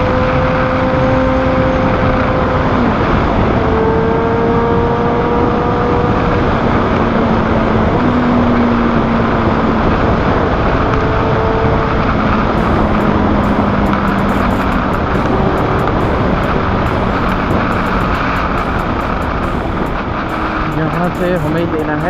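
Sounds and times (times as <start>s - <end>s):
motorcycle engine cruising: 0.0s - 22.0s
wind noise: 0.0s - 22.0s.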